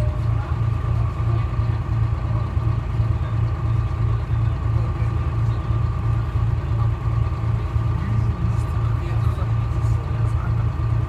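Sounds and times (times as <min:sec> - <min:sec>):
diesel bus engine throbbing: 0:00.0 - 0:11.0.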